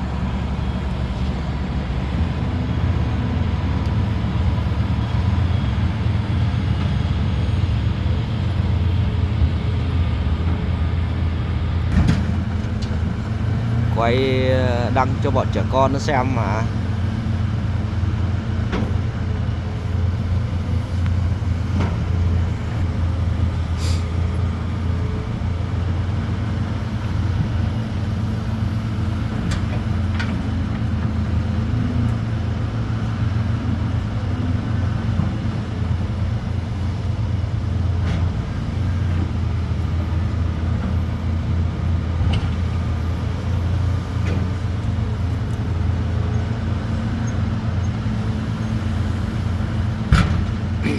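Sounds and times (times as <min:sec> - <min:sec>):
diesel engines droning: 0:00.0 - 0:50.9.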